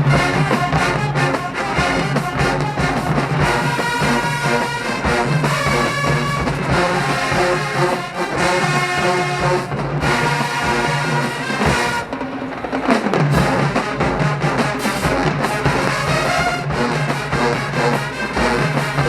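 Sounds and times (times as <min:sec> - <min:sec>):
drums: 0:00.0 - 0:19.0
marching band brass: 0:00.0 - 0:19.0.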